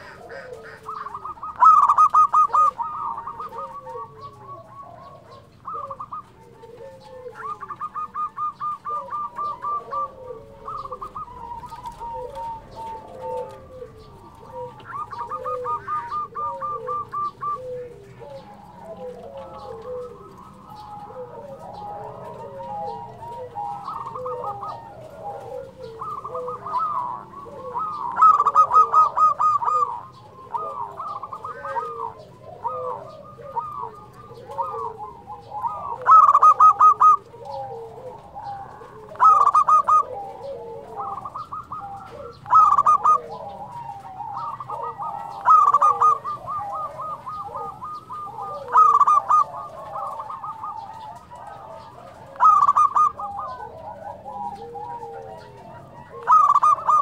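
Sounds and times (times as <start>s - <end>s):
doves cooing: 0.0s - 57.0s
rapid trilled bird call: 0.0s - 57.0s.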